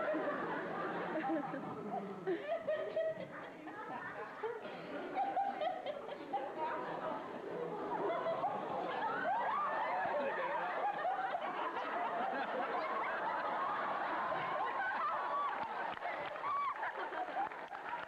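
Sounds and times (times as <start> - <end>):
many voices laughing and squealing: 0.0 - 17.7.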